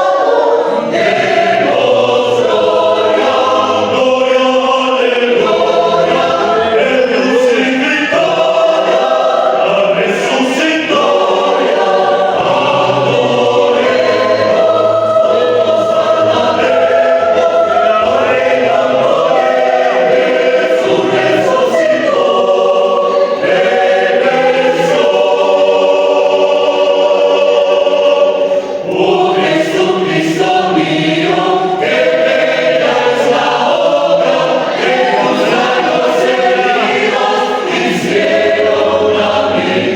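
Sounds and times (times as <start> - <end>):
choir singing held chords: 0.0 - 39.9.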